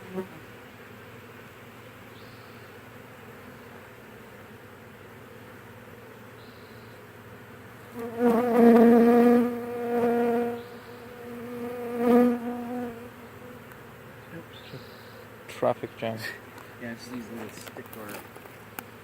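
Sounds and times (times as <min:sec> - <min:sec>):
faint hum of bee swarm: 0:00.0 - 0:19.0
honeybee wing buzz: 0:00.0 - 0:19.0.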